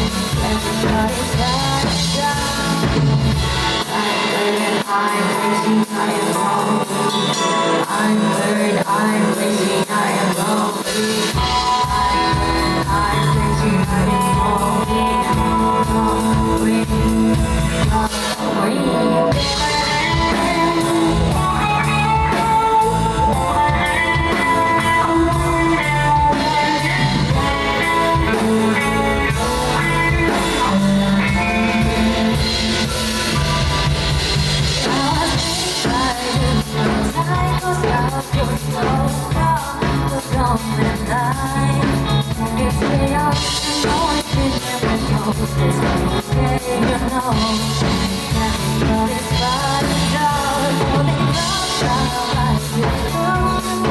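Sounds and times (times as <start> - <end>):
live pop-rock band: 0.0 - 53.9
person singing: 0.0 - 53.9.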